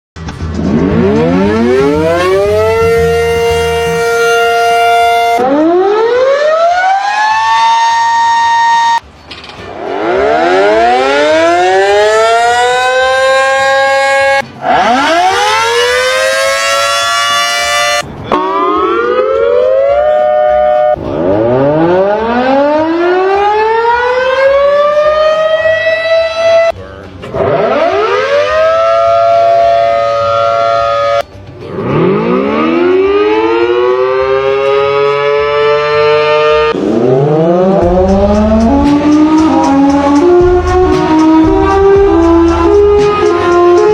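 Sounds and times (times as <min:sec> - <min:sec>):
siren wail: 0:00.7 - 0:09.0, 0:09.8 - 0:26.7, 0:27.3 - 0:43.9.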